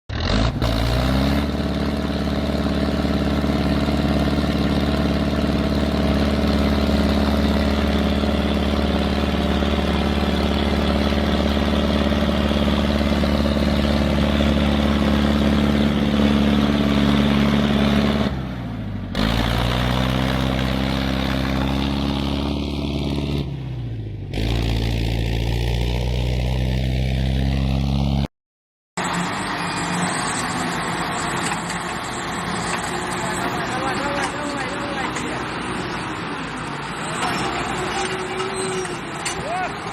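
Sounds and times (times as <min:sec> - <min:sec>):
tractor engine running hard: 0:00.1 - 0:23.6, 0:29.0 - 0:39.9.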